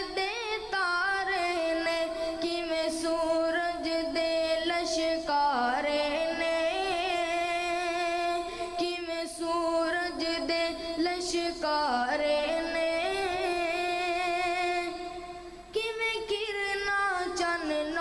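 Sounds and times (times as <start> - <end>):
boy singing into a microphone: 0.0 - 18.0.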